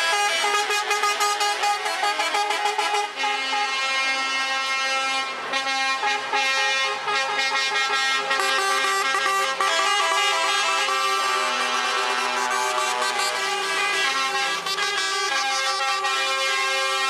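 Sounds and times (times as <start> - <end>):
truck air horns: 0.0 - 17.0.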